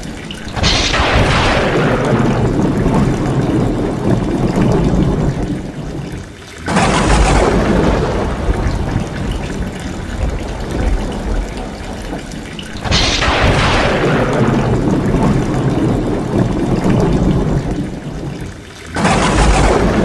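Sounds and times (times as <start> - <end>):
heavy rain: 0.0 - 20.0
runoff water pouring and splashing: 0.0 - 20.0.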